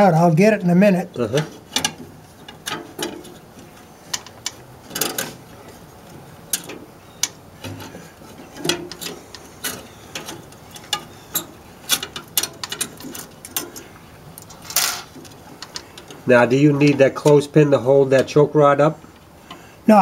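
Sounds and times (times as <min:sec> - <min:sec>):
sharp metallic clicks and rattles: 0:01.0 - 0:17.5.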